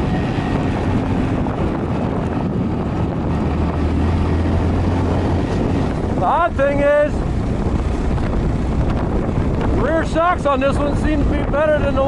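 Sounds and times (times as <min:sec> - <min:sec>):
motorcycle engine running: 0:00.0 - 0:12.0
wind noise on microphone: 0:00.0 - 0:12.0.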